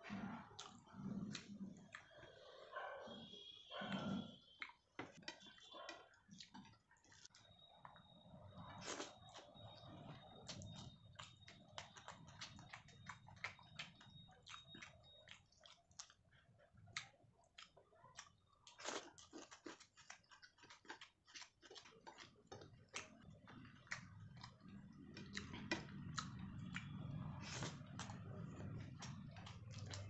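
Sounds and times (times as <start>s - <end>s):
quiet chewing: 0.0s - 30.0s.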